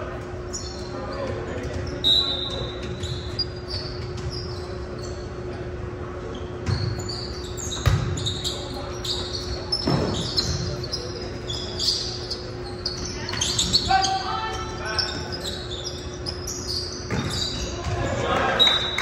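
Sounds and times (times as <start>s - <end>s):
sneakers squeaking on hardwood: 0.4s - 5.4s, 6.2s - 19.0s.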